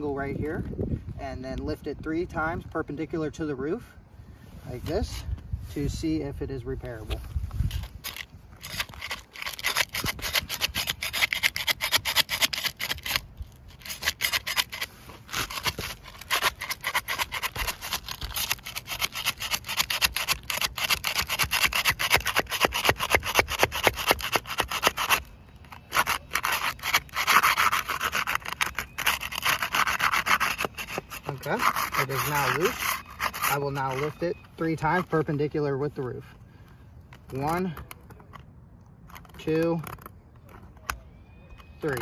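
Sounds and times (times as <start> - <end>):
roof shingle scraping: 7.0 - 41.0.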